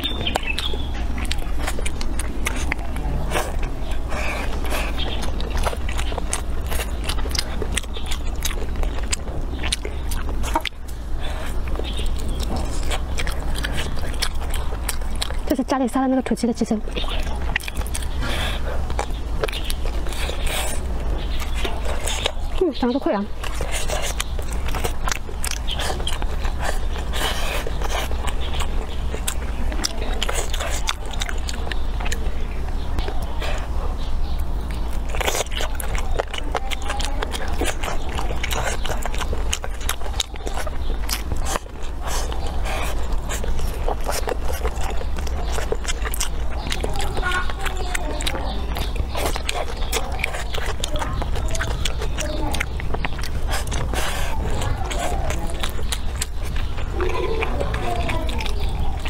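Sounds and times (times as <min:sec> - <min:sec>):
wet mouth clicks and smacks: 0:00.0 - 0:15.6, 0:16.8 - 0:59.0
person chewing food: 0:00.0 - 0:59.0
steady low hum: 0:00.0 - 0:59.0.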